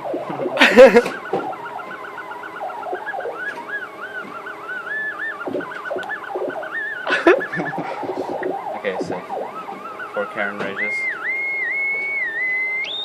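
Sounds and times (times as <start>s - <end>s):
warbling electronic whistle tone: 0.0s - 13.0s.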